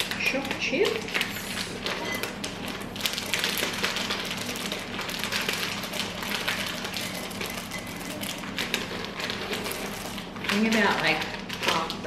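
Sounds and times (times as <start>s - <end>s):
chocolate chips pouring into bowl: 0.0s - 12.0s.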